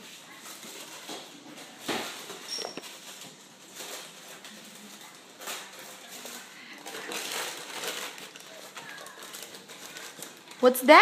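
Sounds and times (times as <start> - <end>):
wrapping paper rustling and tearing: 0.0 - 11.0.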